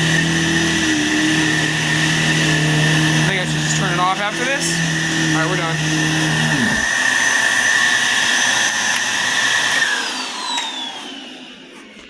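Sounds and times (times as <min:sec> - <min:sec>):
vacuum cleaner whining: 0:00.0 - 0:12.0
vacuum motor winding down: 0:00.0 - 0:12.0.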